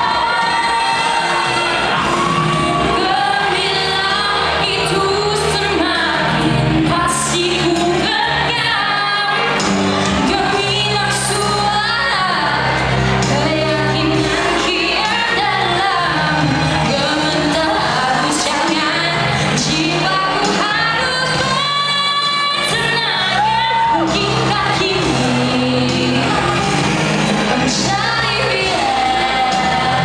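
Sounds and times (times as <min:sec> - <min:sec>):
woman singing into microphone: 0:00.0 - 0:30.0.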